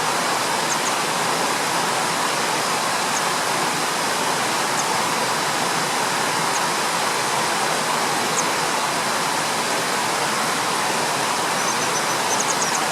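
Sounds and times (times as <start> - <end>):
stream water rushing: 0.0 - 12.9.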